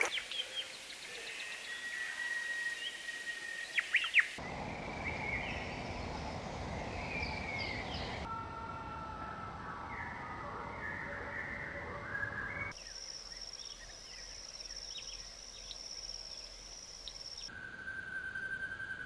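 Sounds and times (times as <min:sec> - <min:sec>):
songbirds calling and singing: 0:00.0 - 0:08.3, 0:09.8 - 0:19.0.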